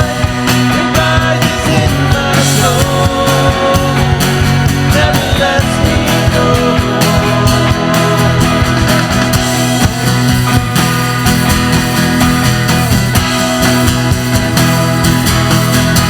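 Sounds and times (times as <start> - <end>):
band playing rock song: 0.0 - 16.0.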